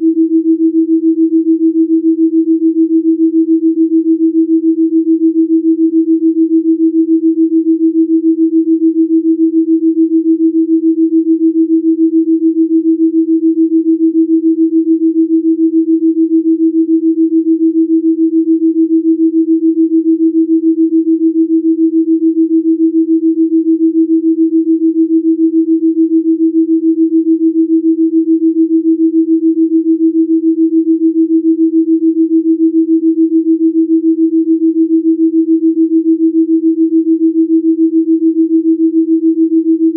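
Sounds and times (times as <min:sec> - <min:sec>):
pulsing sine tone: 0:00.0 - 0:39.9.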